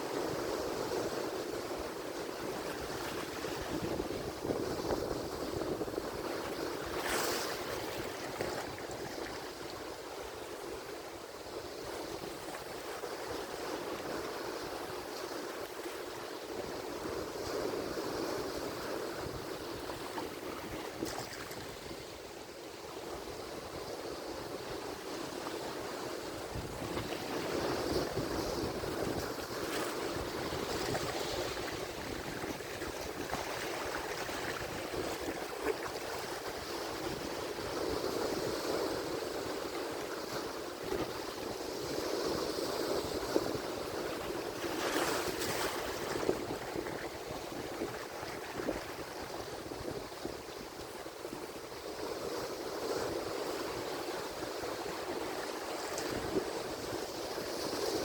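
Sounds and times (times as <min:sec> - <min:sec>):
ocean waves breaking: 0:00.0 - 0:51.7.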